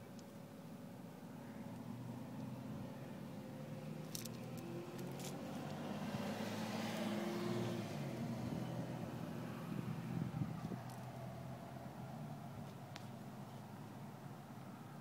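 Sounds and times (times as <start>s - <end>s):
car passing by: 1.8s - 13.9s.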